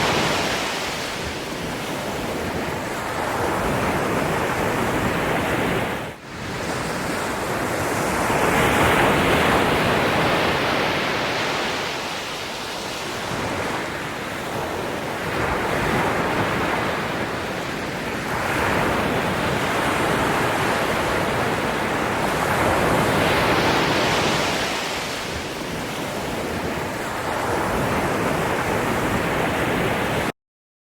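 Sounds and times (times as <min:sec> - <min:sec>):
waves breaking on shore: 0:00.0 - 0:30.3.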